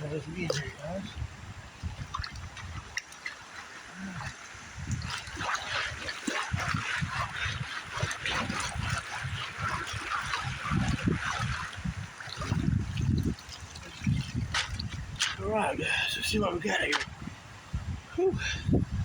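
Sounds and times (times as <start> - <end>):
water sloshing: 0.0 - 17.3.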